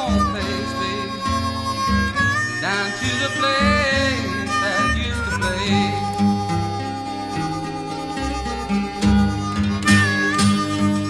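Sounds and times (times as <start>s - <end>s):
blues harmonica: 0.0s - 11.0s
rhythmic guitar backing: 0.0s - 11.0s.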